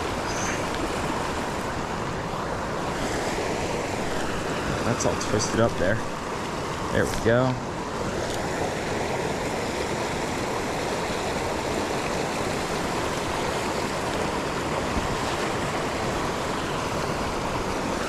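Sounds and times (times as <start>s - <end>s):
creek rushing over rocks: 0.0s - 18.0s.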